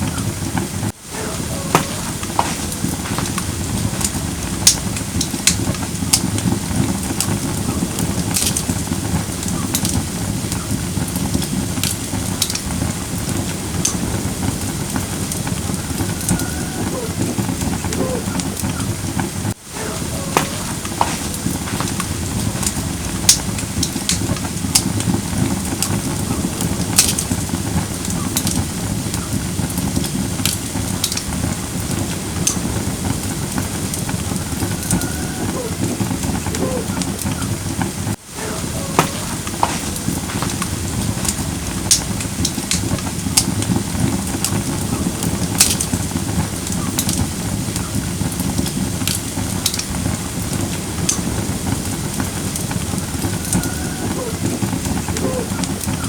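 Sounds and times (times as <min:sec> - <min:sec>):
low rush of flame: 0:00.0 - 0:56.0
wood crackling and popping: 0:00.0 - 0:56.0.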